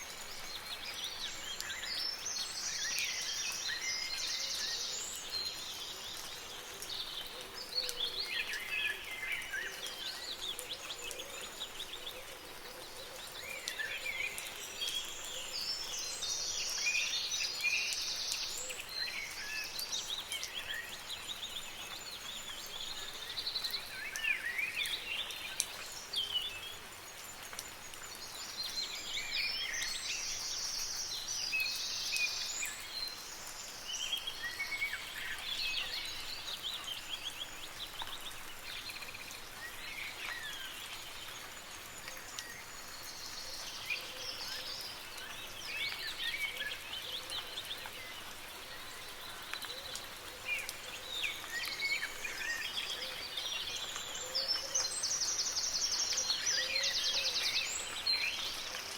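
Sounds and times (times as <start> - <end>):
light rain hiss: 0.0 - 58.9.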